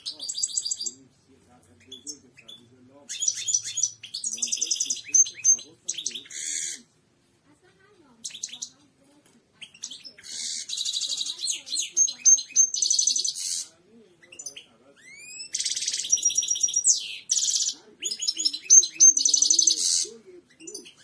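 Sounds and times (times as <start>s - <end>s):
goldfinch singing: 0.0s - 1.0s, 1.8s - 6.9s, 8.2s - 8.8s, 9.6s - 21.0s.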